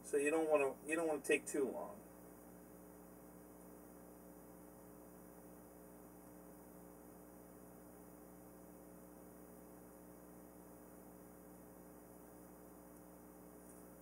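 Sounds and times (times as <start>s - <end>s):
low steady hum and hiss: 0.0s - 14.0s.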